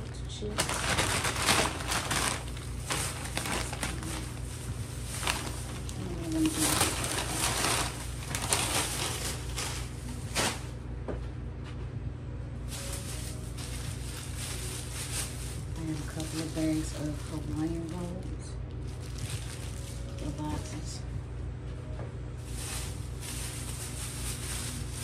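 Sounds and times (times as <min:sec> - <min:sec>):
bags and packaging rustling: 0:00.0 - 0:10.8, 0:12.6 - 0:21.0, 0:22.4 - 0:25.0
steady low hum: 0:00.0 - 0:25.0.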